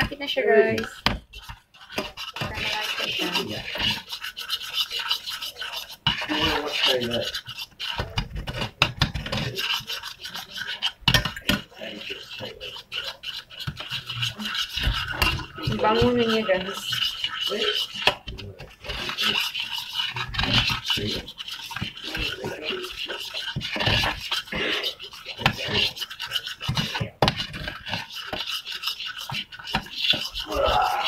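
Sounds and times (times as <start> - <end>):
metal spoon scraping a saucepan: 0.0 - 31.0.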